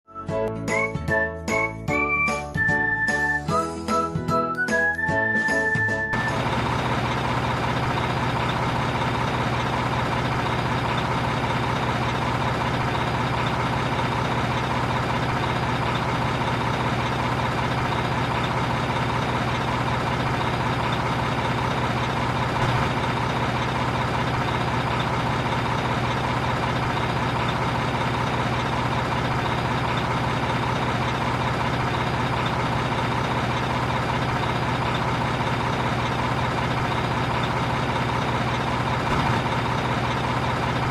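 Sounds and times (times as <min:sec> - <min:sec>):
truck engine idling: 0:00.1 - 0:40.9.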